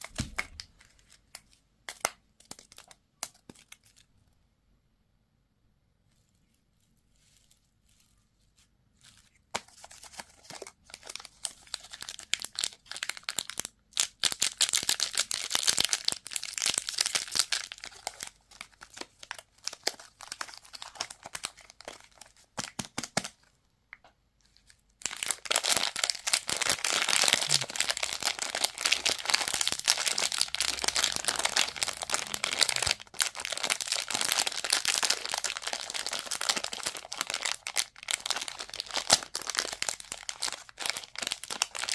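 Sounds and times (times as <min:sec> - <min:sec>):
plastic wrappers crinkling and tearing: 0:00.0 - 0:04.1, 0:07.1 - 0:23.4, 0:24.4 - 0:41.9.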